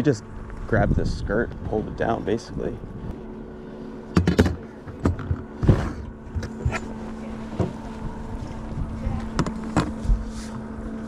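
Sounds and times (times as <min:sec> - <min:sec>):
electric boat motor humming: 0:00.0 - 0:11.0.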